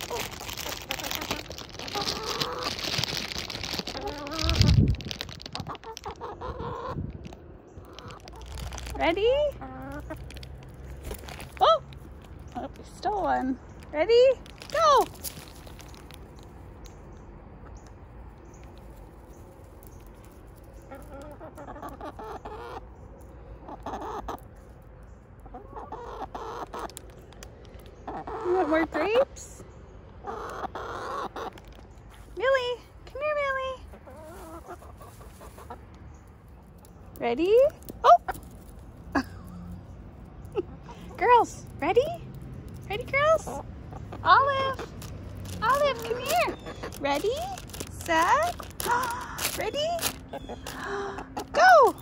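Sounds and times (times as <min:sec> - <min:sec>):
crackly rustling: 0:00.0 - 0:23.2, 0:31.2 - 0:33.1, 0:33.8 - 0:51.0
hens clucking: 0:00.0 - 0:52.0.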